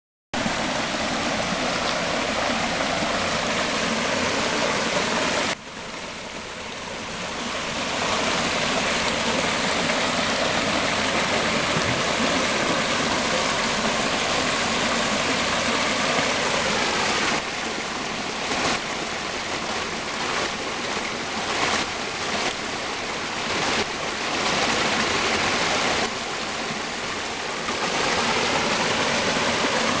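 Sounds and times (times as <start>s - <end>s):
stream over small waterfall: 0.4s - 30.0s.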